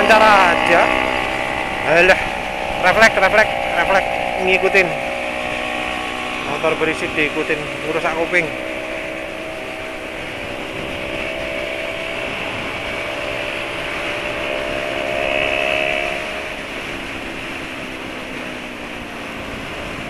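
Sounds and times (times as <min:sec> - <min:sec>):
motor scooter engine running: 0:00.0 - 0:20.0
wind and road noise: 0:00.0 - 0:20.0.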